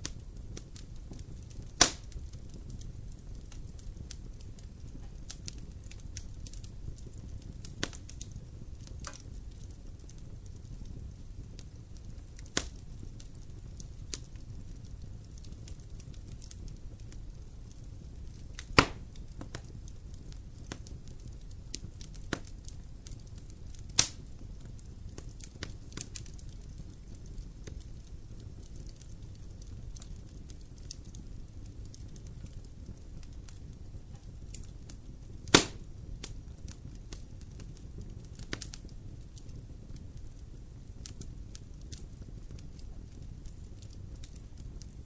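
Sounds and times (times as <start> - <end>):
fire crackling and popping: 0.0 - 45.0
fire rumbling: 0.0 - 45.0.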